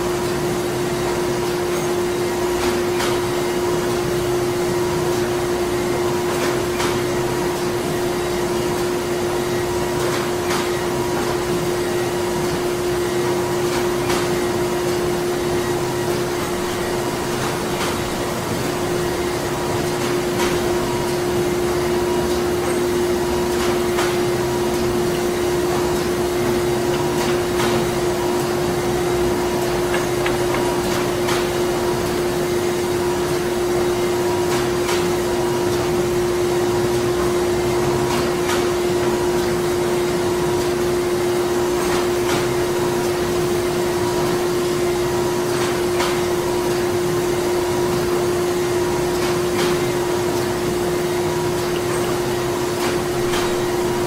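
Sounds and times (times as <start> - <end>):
machinery drone with hum: 0.0 - 54.0.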